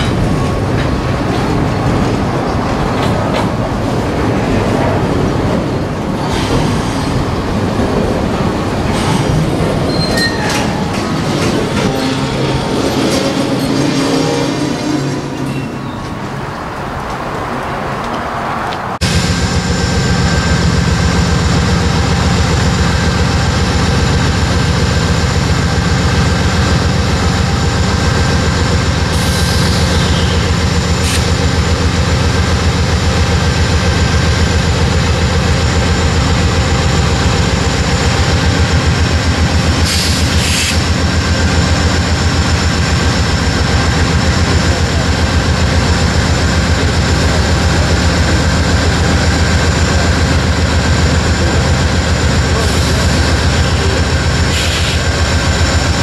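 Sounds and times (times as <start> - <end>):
diesel locomotive engines rumbling: 0.0 - 56.0.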